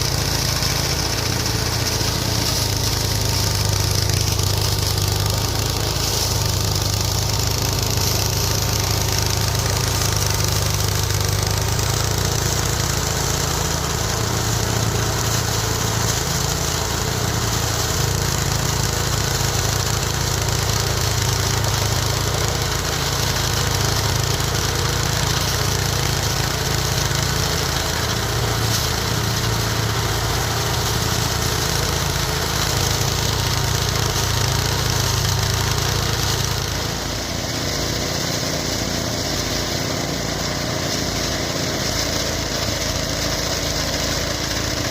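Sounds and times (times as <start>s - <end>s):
thresher engine hum: 0.0s - 44.9s.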